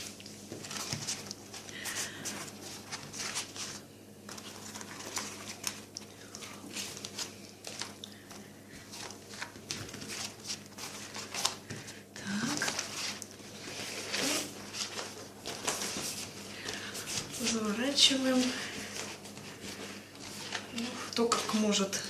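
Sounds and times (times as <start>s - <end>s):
faint steady hum: 0.0s - 22.0s
flatbread rustling and crackling: 0.0s - 22.0s.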